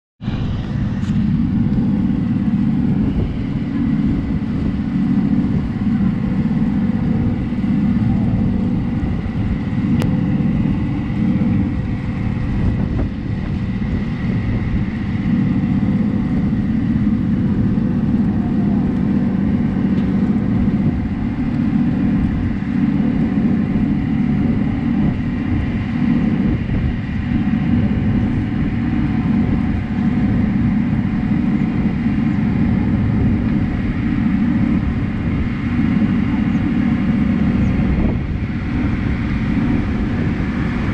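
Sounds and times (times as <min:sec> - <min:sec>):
boat engine droning: 0:00.2 - 0:40.9.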